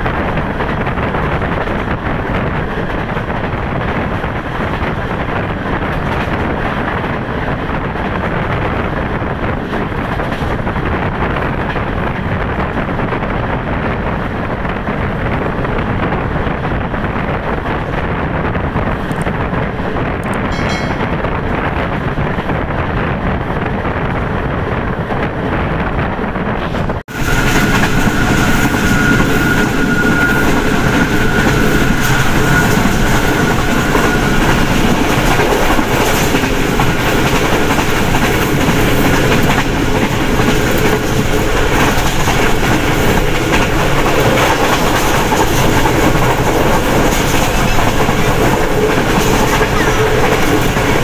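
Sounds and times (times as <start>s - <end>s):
train wheels rumbling and clattering: 0.0s - 51.0s.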